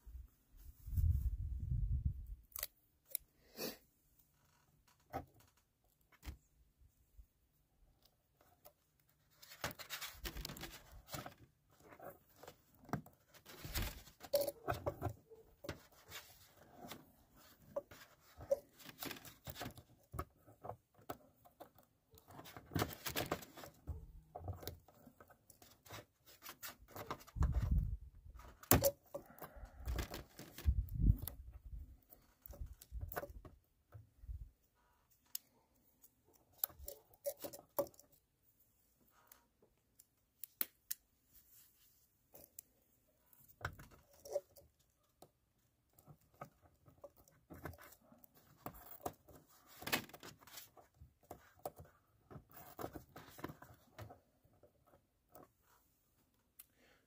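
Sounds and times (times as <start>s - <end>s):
clicks and handling noise: 2.2s - 3.3s, 7.8s - 56.8s.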